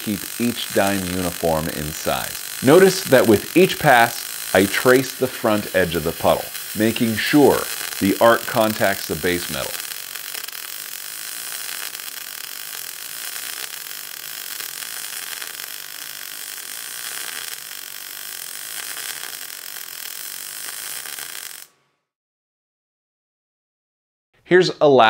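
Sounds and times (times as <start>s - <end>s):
welding arc crackling hiss: 0.0s - 21.8s.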